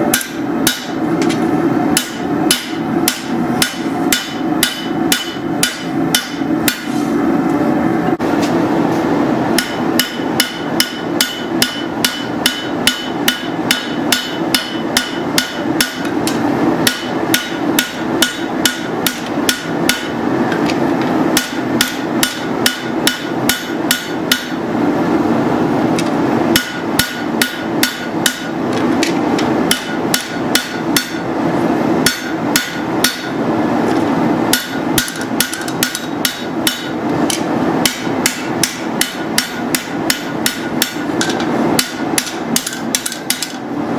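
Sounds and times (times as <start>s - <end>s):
hammer striking steel on anvil: 0.1s - 7.0s, 9.5s - 24.6s, 26.0s - 31.3s, 32.0s - 33.4s, 34.5s - 43.7s.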